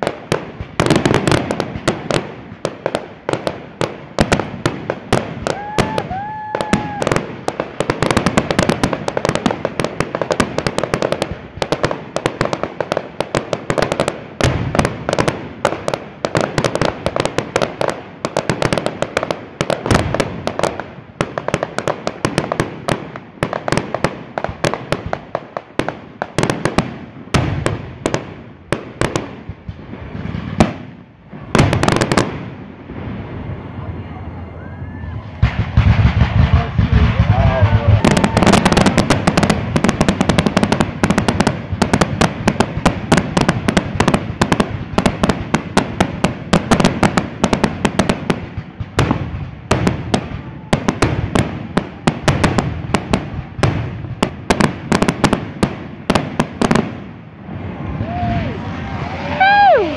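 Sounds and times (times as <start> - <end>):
firework shells booming: 0.0 - 33.3, 35.2 - 57.2
fireworks crackling: 0.0 - 59.9.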